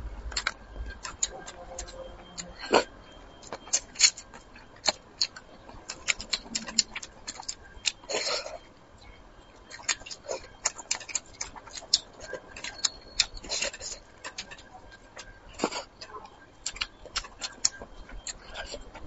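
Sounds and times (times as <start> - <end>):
wet chewing: 0.3 - 8.6, 9.7 - 16.0, 16.6 - 19.0.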